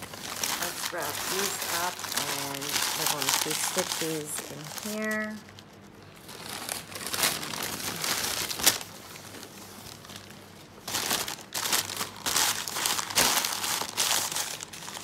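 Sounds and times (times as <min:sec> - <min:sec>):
wrapping material crinkling: 0:00.0 - 0:15.0.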